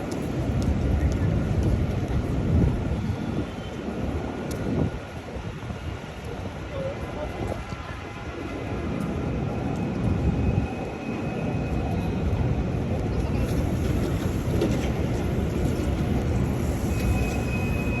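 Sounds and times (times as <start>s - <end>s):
low rumble of city noise: 0.0s - 18.0s.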